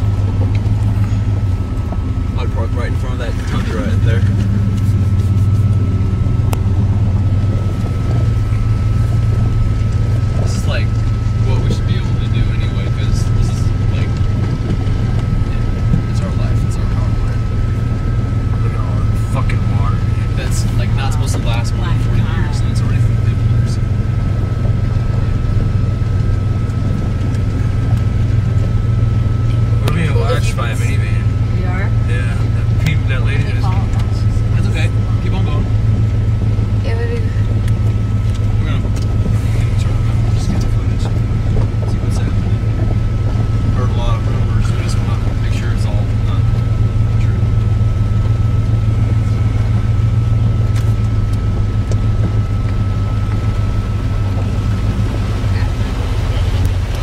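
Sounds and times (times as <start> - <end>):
vehicle engine drone from inside: 0.0 - 57.0.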